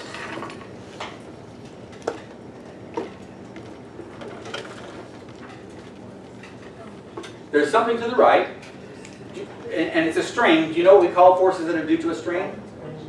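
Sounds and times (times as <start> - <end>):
room noise: 0.0 - 13.0.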